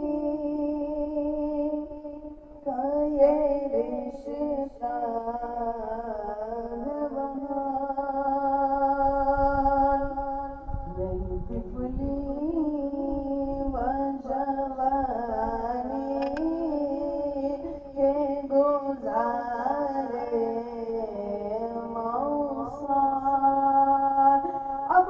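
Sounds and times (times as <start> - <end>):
man chanting: 0.0 - 25.0.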